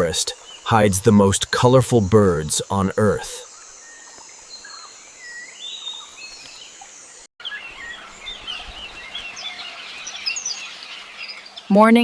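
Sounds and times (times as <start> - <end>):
high insect drone: 0.0 - 11.6
birds chirping and calling: 0.0 - 12.0.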